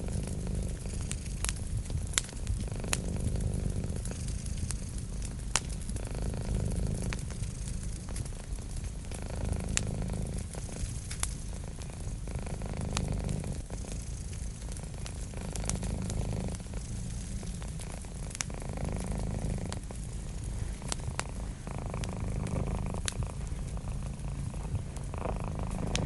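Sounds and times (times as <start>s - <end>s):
cat purring: 0.0s - 26.0s
wood fire crackling: 0.0s - 26.0s.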